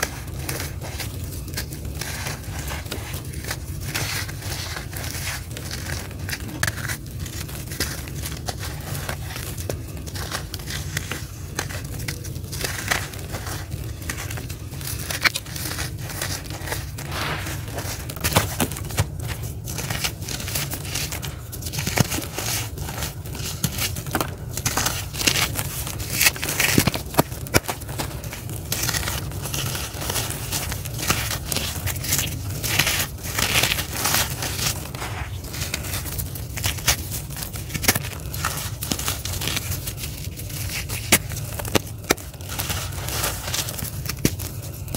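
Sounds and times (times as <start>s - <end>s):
charcoal crunching by hand: 0.0s - 44.9s
steady low hum: 0.0s - 44.9s.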